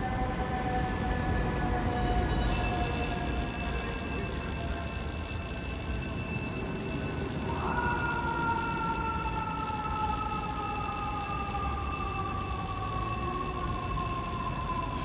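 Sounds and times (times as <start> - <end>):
fire engine sirens winding down: 2.5 - 15.0
high steady ringing tone: 2.5 - 15.0.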